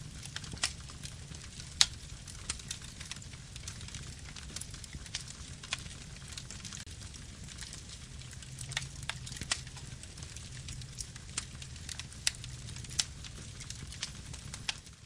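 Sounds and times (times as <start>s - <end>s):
burning wood crackling and popping: 0.0s - 15.0s
campfire rumble: 0.0s - 15.0s.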